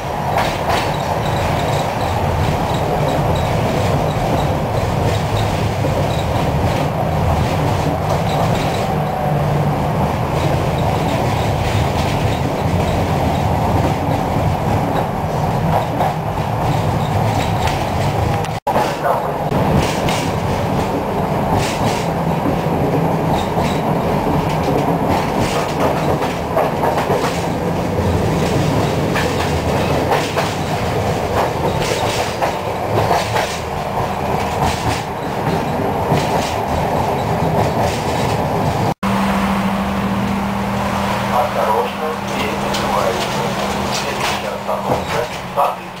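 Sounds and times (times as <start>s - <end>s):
clacks over rail joints: 0.0s - 39.0s, 41.3s - 46.0s
tram wheels rumbling on rail: 0.0s - 46.0s.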